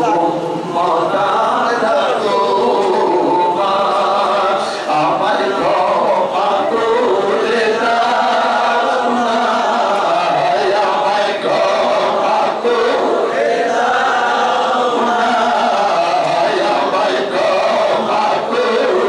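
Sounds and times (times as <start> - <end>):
man chanting into a microphone: 0.0 - 19.0.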